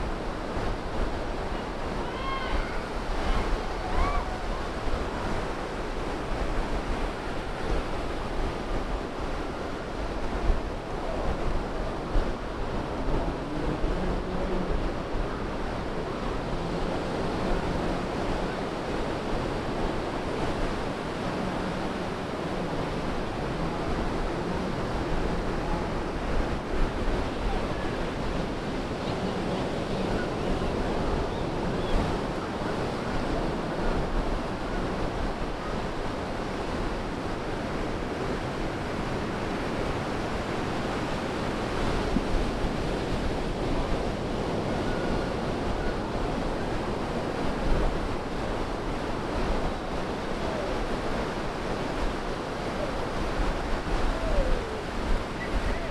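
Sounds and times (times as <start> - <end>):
ocean surf on beach: 0.0 - 55.9
wind noise on microphone: 0.0 - 55.9.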